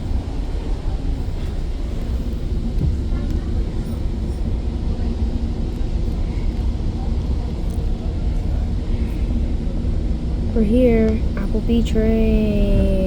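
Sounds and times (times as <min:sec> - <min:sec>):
faint steady hum: 0:00.0 - 0:13.0
train rumble from on board: 0:00.0 - 0:13.0.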